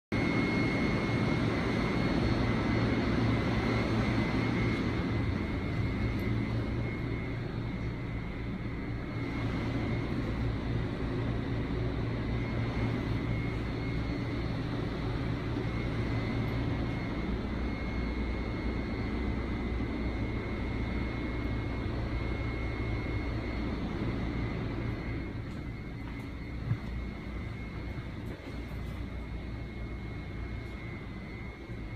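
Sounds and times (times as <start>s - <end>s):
high steady whine: 0.1s - 31.9s
low electrical hum: 0.2s - 31.9s.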